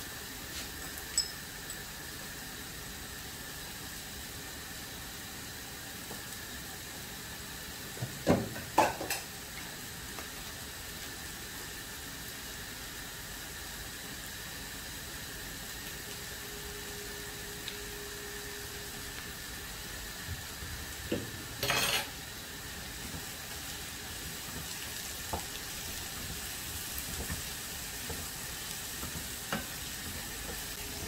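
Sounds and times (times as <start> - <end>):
vegetables sizzling in pan: 0.0 - 31.0.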